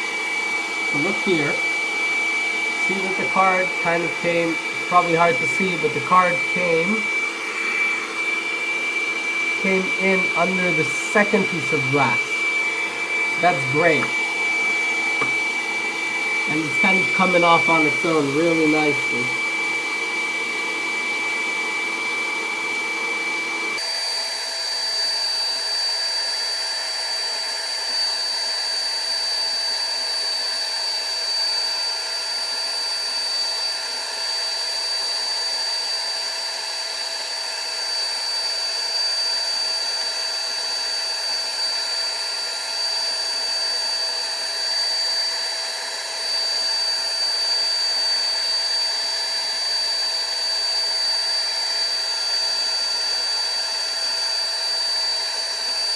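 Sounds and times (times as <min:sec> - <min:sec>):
hot-air blower whistling: 0:00.0 - 0:55.9.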